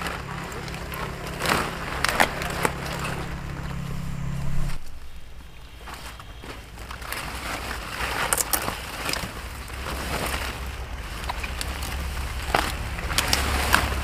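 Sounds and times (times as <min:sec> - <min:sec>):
leaves rustling and stalks snapping: 0:00.0 - 0:14.0.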